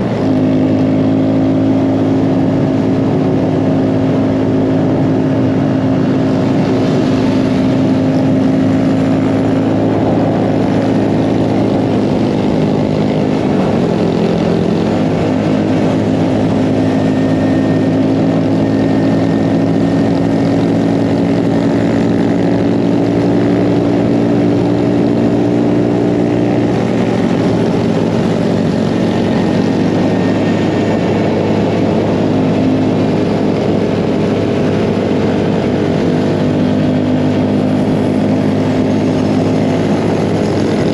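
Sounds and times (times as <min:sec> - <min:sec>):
mini bike engine droning: 0:00.0 - 0:40.9.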